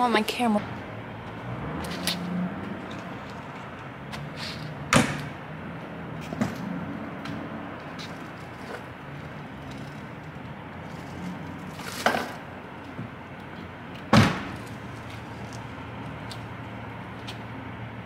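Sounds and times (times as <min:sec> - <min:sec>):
low engine hum: 0:00.4 - 0:18.0.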